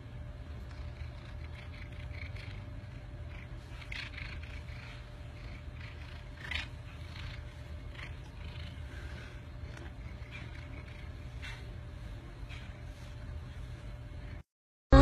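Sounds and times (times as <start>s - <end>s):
cat purring: 0.0s - 14.4s.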